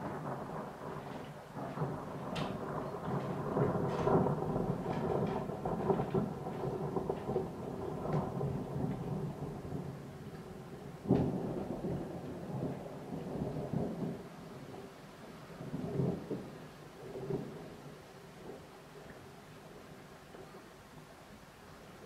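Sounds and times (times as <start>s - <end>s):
thunder rolling and crackling: 0.0s - 20.7s
rain falling: 0.0s - 22.0s.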